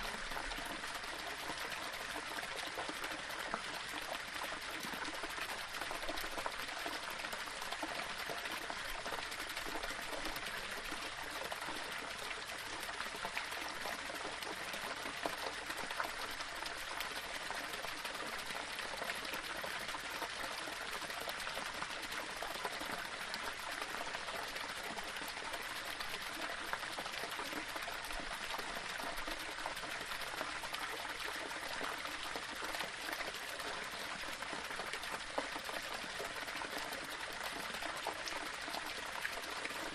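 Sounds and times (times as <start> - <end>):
small waterfall splashing over rocks: 0.0 - 39.9.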